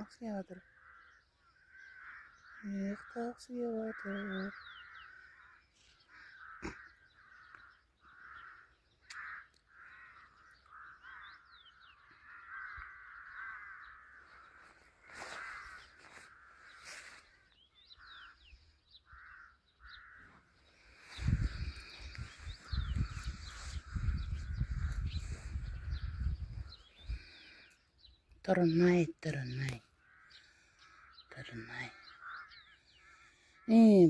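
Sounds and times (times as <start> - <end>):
small birds chirping: 0.0 - 34.0
crow-like caws: 0.6 - 27.8, 29.9 - 33.8.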